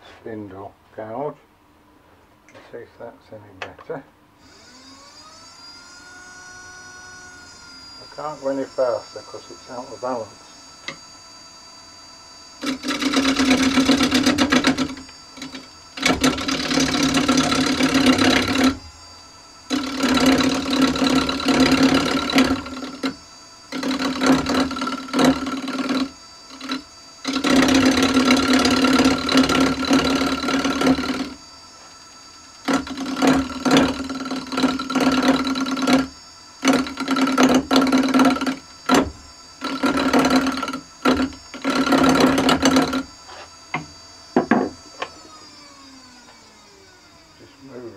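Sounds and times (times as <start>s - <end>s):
wood lathe running: 4.4s - 47.9s
gouge cutting spinning wood: 4.5s - 47.9s.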